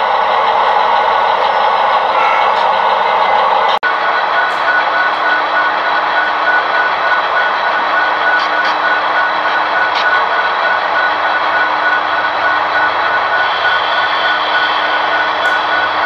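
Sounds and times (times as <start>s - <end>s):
diesel locomotive engines rumbling: 0.0s - 16.0s.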